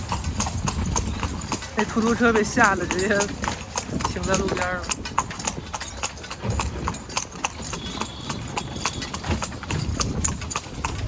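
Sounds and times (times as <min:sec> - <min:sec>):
horse hooves clip-clopping on road: 0:00.0 - 0:11.0.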